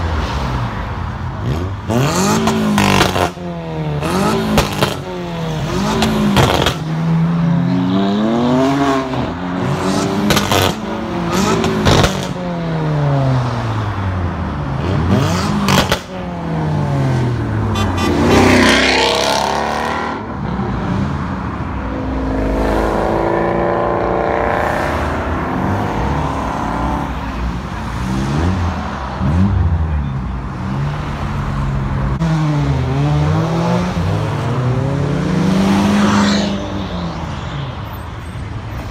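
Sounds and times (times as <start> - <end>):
car engines revving and passing: 0.0 - 38.9.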